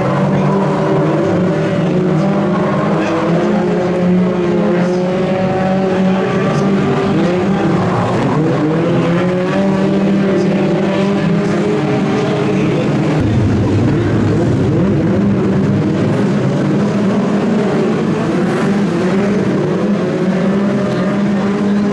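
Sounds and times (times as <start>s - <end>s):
stock car engines revving: 0.0s - 21.9s.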